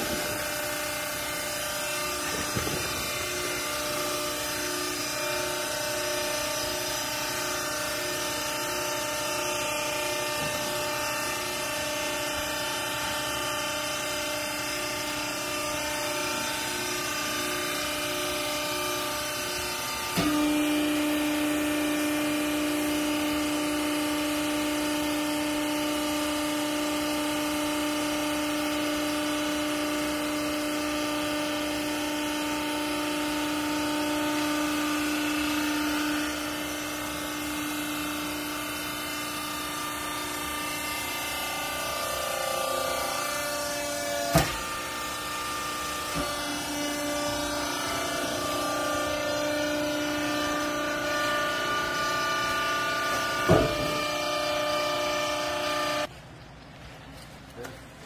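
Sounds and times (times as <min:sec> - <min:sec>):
hydraulic power unit humming: 0:00.0 - 0:58.0.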